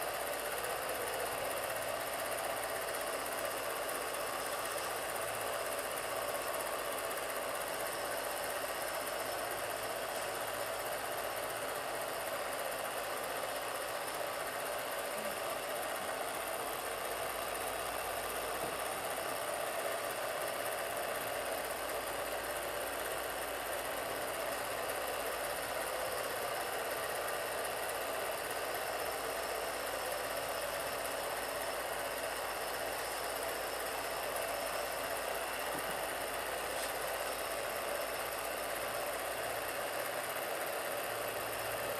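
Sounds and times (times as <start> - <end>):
film projector running: 0.0 - 41.9.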